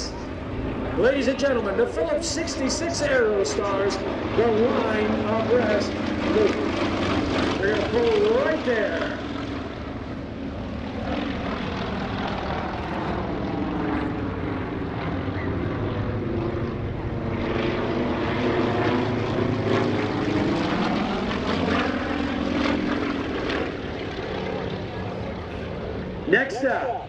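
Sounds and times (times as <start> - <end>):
propeller planes droning: 0.0 - 27.0.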